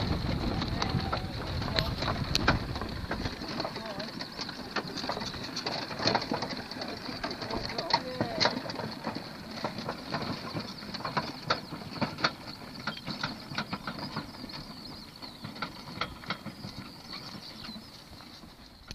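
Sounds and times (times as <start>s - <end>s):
wheels crunching on gravel: 0.0s - 18.9s.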